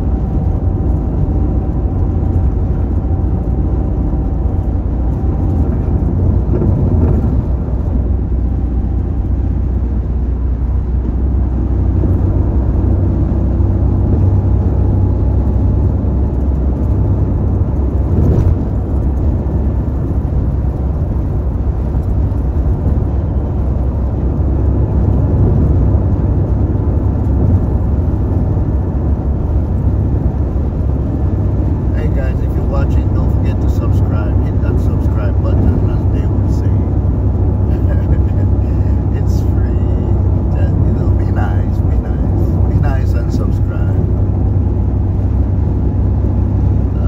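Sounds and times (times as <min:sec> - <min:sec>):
car tyre and engine rumble: 0:00.0 - 0:47.0.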